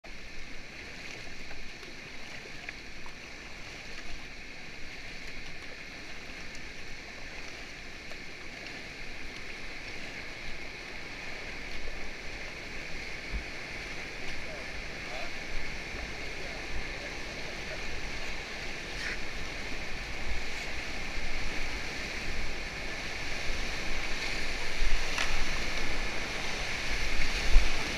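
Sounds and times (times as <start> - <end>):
river rapids rushing: 2.5 - 27.9.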